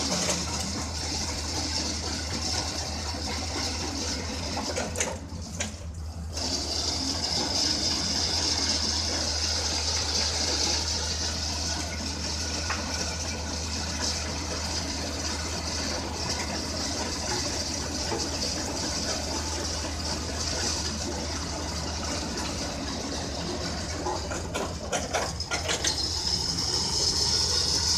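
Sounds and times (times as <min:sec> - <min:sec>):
diesel engine hum: 0:00.0 - 0:27.9.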